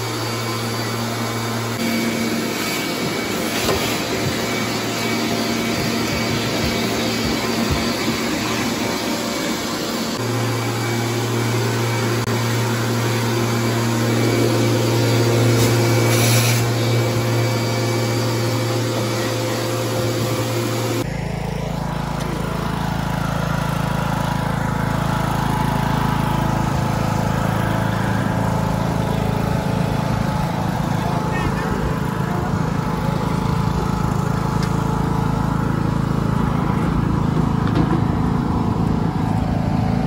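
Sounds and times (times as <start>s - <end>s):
riding lawn mower engine: 0.0s - 40.0s
vacuum cleaner running: 0.0s - 40.0s.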